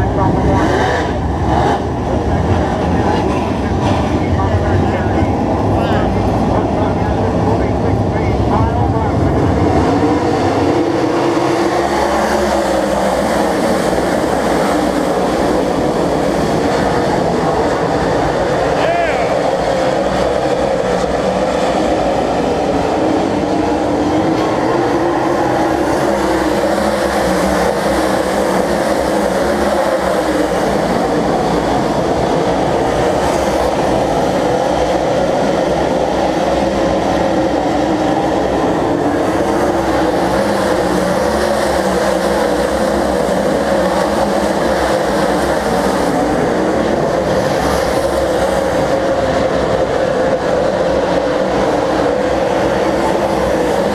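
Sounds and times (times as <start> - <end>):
racing car engines droning: 0.0 - 53.9.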